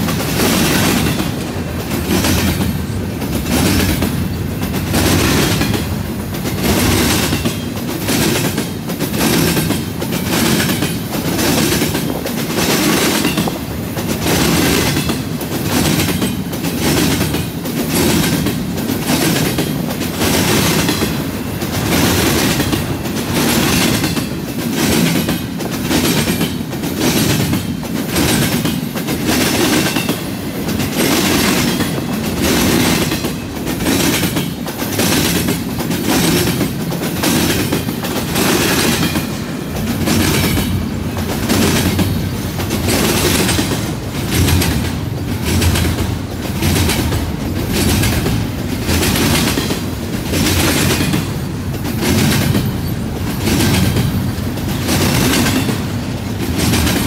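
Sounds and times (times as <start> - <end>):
freight train wheels clacking: 0.0 - 57.0.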